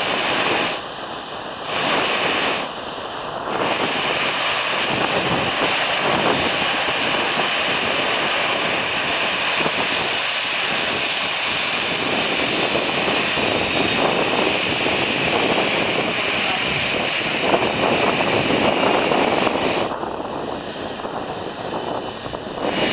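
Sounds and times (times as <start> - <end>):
jet engine idling: 0.0 - 22.9.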